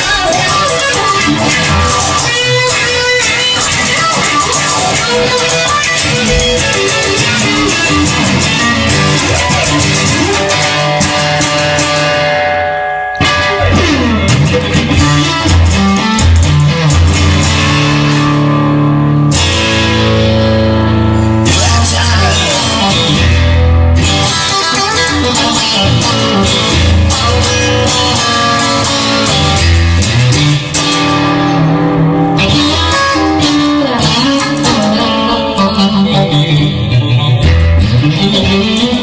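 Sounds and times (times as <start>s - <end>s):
long held bass notes: 0.0s - 39.0s
rock music with electric guitar: 0.0s - 39.0s.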